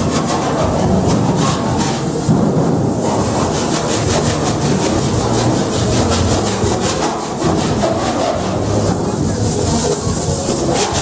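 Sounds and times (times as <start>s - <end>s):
fast rasping strokes on wood: 0.0s - 11.0s.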